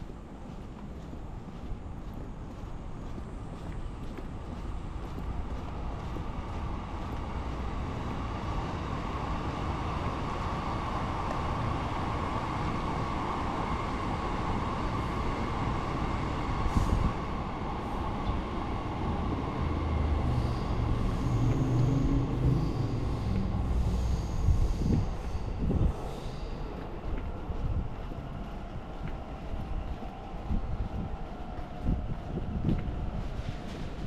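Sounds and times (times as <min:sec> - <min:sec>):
vehicle rumble: 0:00.0 - 0:14.0, 0:15.6 - 0:34.0.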